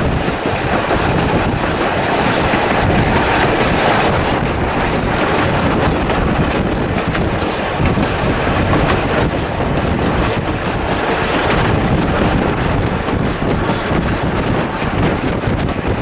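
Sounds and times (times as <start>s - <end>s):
train wheels rumbling on track: 0.0s - 16.0s
wind rushing over microphone: 0.0s - 16.0s.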